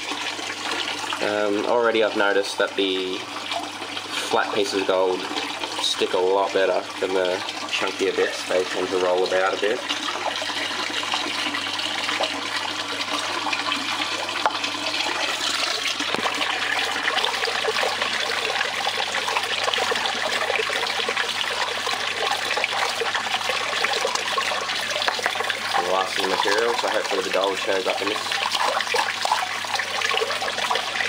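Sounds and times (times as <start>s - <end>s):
water running across a mat: 0.0s - 31.0s.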